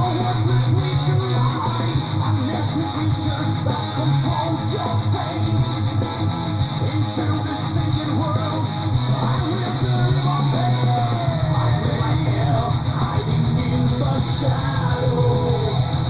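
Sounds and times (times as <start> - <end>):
metal music electric guitars and bass: 0.0 - 16.0.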